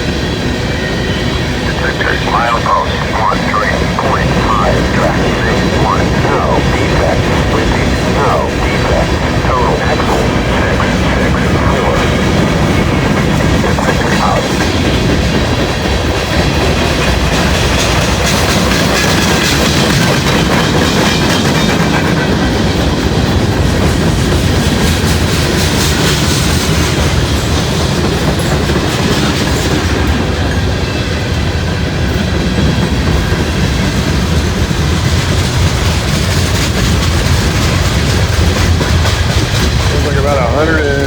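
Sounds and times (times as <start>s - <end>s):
freight train rumbling past: 0.0s - 41.0s.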